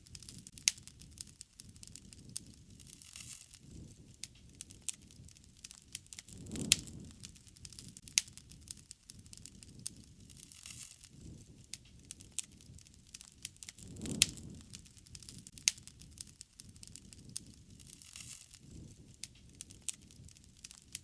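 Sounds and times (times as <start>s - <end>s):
low rumble of flame: 0.0s - 21.0s
wood fire crackling: 0.0s - 21.0s.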